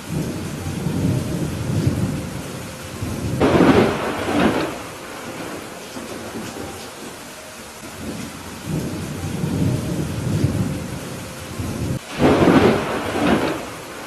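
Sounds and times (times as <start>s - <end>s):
sharp thunderclap: 0.0s - 6.8s, 8.0s - 11.0s, 11.6s - 14.0s
rolling thunder rumble: 0.0s - 14.0s
steady rain: 0.0s - 14.0s.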